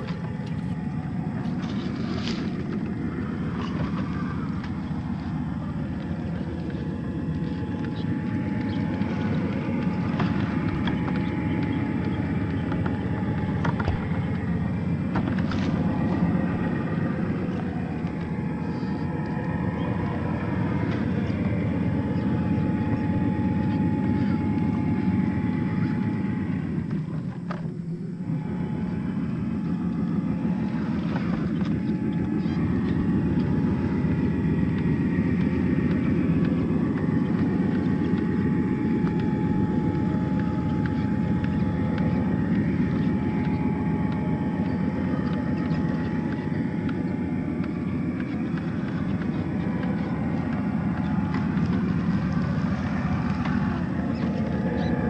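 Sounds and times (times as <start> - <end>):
electric motor whine: 0.0 - 55.0.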